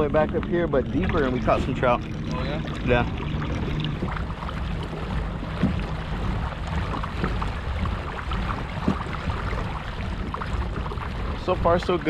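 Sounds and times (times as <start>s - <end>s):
water lapping against kayak hull: 0.0s - 12.0s.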